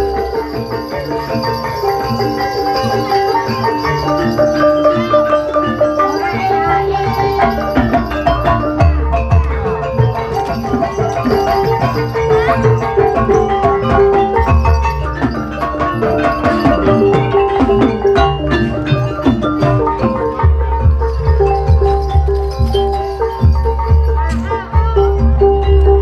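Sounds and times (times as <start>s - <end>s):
gamelan metallophones melody: 0.0s - 26.0s
drum strokes: 1.6s - 26.0s.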